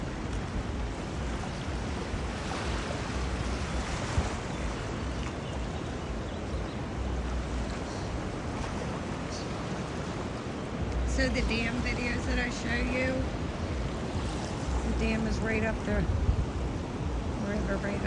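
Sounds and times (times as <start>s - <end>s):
river rushing: 0.0s - 18.0s
wind rumbling on microphone: 0.0s - 18.0s.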